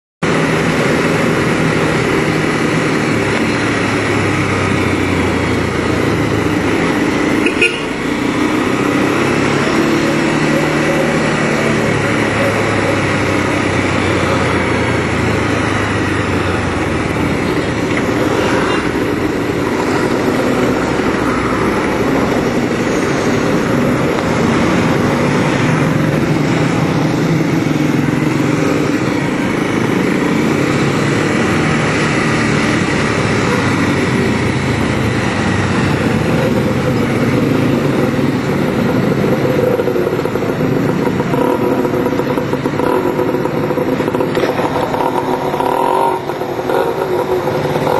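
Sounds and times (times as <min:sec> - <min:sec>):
motorcycle engine running: 0:00.2 - 0:47.9.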